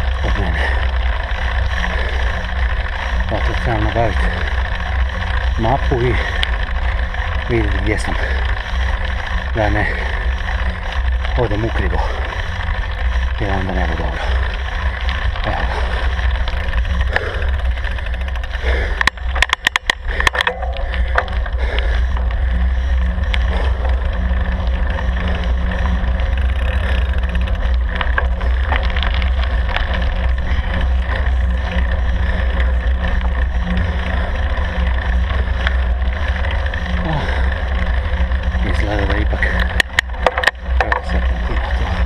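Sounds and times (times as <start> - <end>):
low steady hum: 0.0 - 42.0
sharp knocks and crackles: 0.0 - 42.0.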